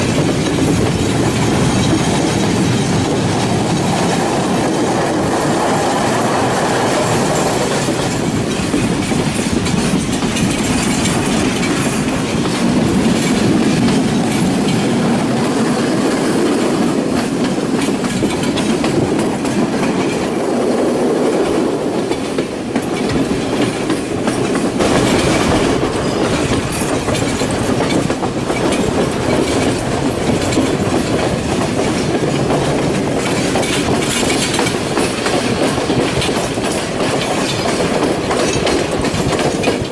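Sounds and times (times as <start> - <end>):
train rumble: 0.0 - 39.9
train wheels clickety-clack: 0.0 - 39.9.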